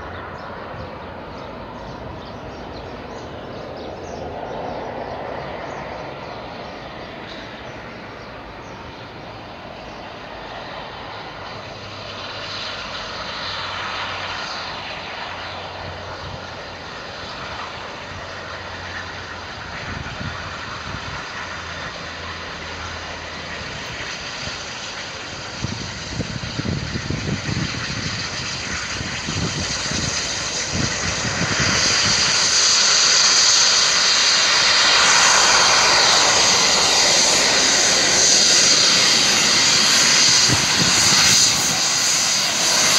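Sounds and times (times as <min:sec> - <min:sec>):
loud steady steam hiss: 0:00.0 - 0:42.9
steam locomotive and train rushing: 0:00.0 - 0:42.9
steam locomotive exhaust beats: 0:00.0 - 0:42.9.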